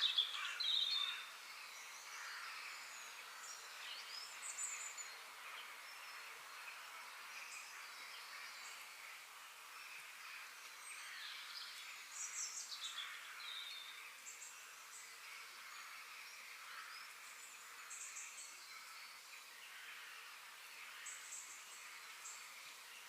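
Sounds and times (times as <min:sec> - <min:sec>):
birds chirping and singing: 0:00.0 - 0:23.0
steady outdoor hiss: 0:00.0 - 0:23.0.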